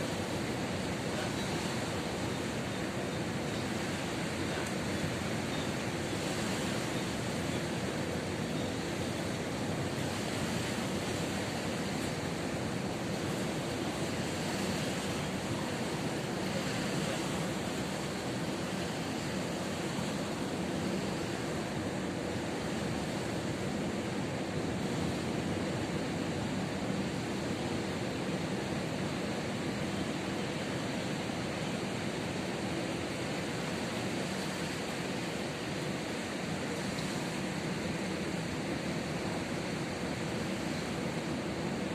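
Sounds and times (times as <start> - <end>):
ocean surf breaking on beach: 0.0 - 41.9.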